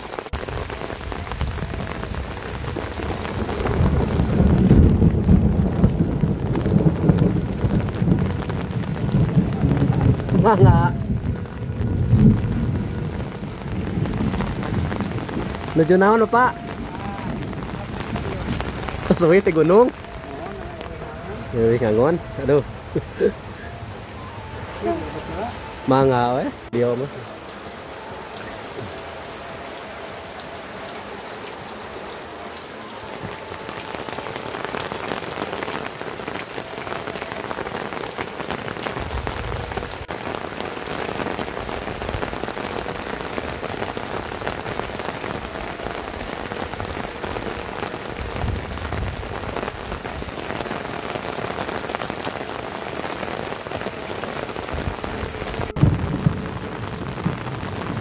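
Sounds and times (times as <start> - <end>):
heavy rain on roofs: 0.0 - 58.0
water running off eaves: 0.0 - 58.0.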